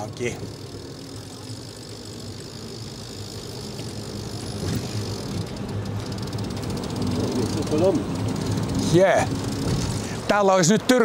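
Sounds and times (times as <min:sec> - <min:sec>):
steady low hum: 0:00.0 - 0:11.0
traffic and road noise: 0:00.0 - 0:11.0.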